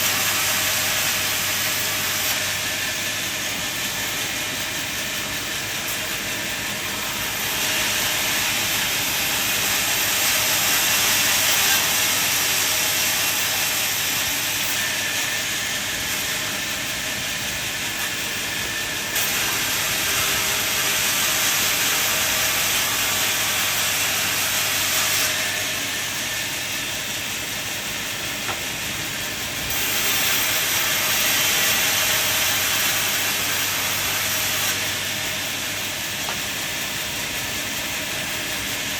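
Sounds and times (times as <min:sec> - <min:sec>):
saw cutting through wood: 0:00.0 - 0:38.9.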